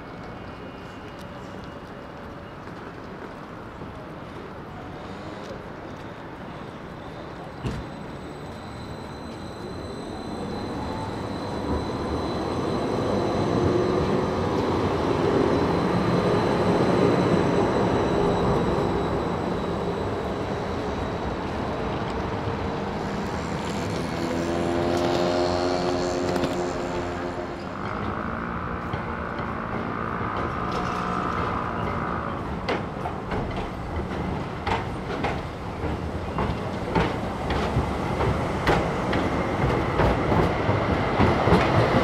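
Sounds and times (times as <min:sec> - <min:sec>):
tram wheels rumbling on rails: 0:00.0 - 0:42.0.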